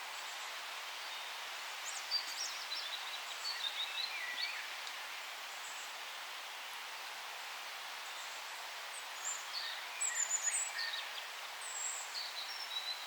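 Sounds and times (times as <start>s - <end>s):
steady forest hiss: 0.0s - 13.0s
songbird chirping: 0.1s - 6.0s, 7.9s - 13.0s.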